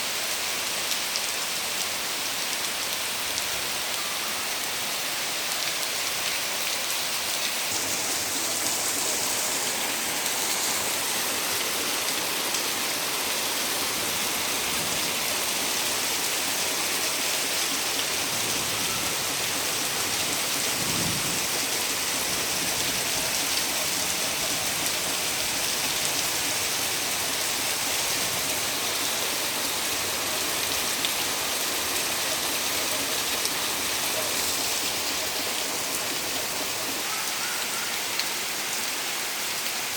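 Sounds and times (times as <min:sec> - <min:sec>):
heavy rain on trees: 0:00.0 - 0:39.9.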